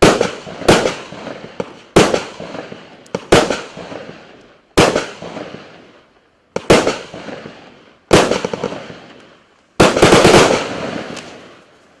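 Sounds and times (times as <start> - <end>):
firework bangs: 0.0 - 11.7
sharp firework cracks: 0.0 - 11.8.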